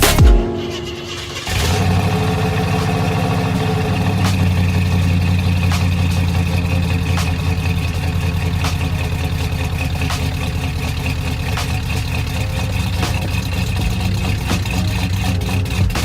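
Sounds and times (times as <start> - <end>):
car engine idling: 1.1 - 16.0.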